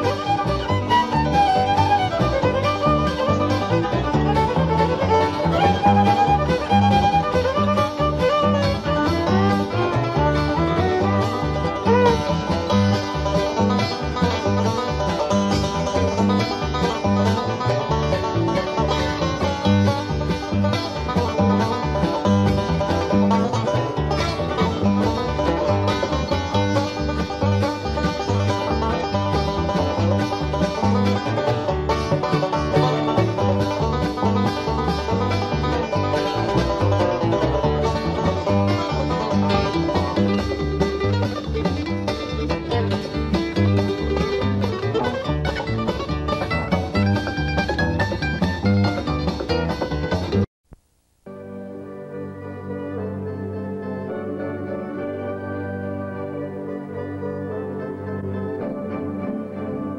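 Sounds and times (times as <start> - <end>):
country music: 0.0 - 50.5, 51.3 - 59.9.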